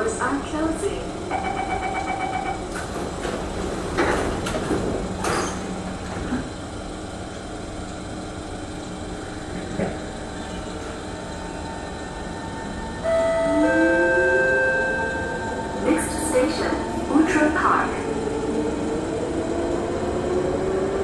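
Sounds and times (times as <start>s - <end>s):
train hum: 0.0s - 21.0s
train doors shutting: 1.3s - 8.0s, 9.4s - 20.8s.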